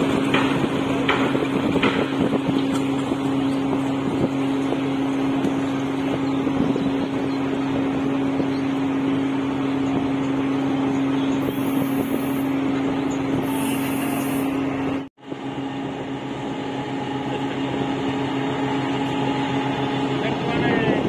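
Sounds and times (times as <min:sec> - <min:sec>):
dredger engine droning: 0:00.0 - 0:21.0.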